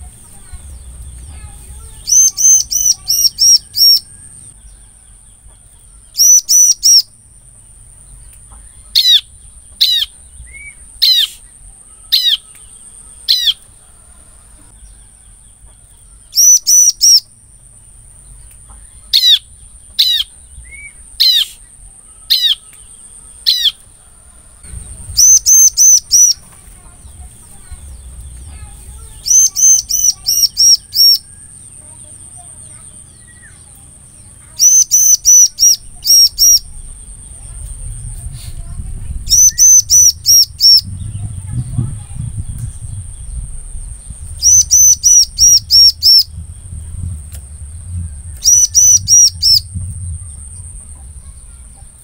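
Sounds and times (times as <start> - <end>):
bird chirping: 0.0 - 52.0.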